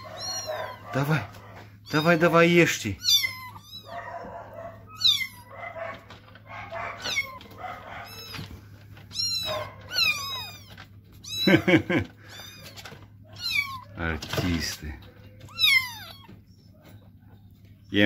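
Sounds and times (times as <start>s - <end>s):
kittens mewing: 0.0s - 18.0s.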